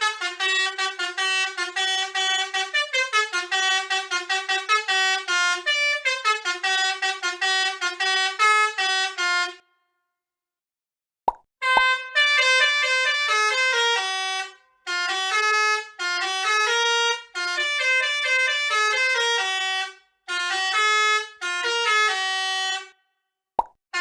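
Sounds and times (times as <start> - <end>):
multi-tone bus air horn tune: 0.0 - 9.9, 11.6 - 23.2.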